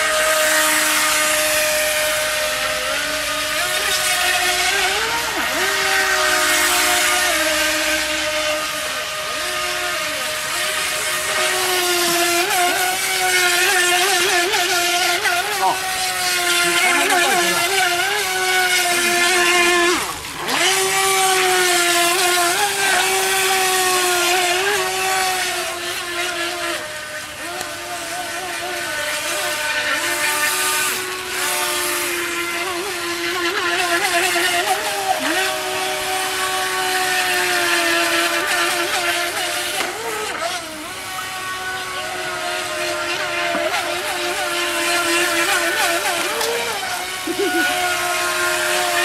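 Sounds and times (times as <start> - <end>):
electric motor whining: 0.0 - 49.0.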